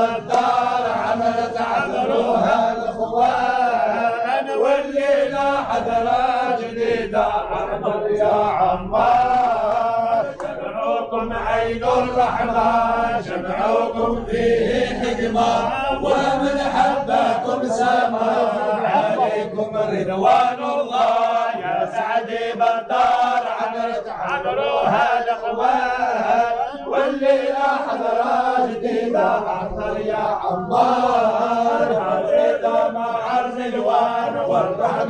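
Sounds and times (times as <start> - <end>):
men chanting together: 0.0 - 35.0.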